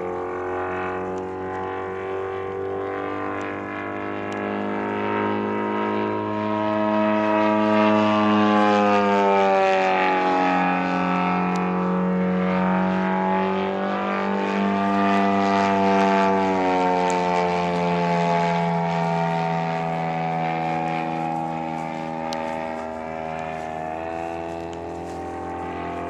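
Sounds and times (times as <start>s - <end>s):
model airplane engine and propeller: 0.0s - 26.0s.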